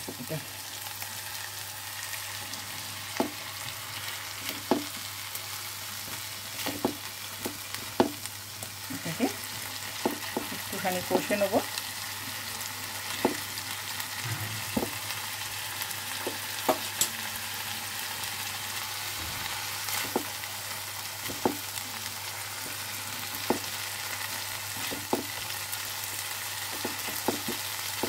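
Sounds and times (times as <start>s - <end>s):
paste sizzling in oil: 0.0s - 28.0s.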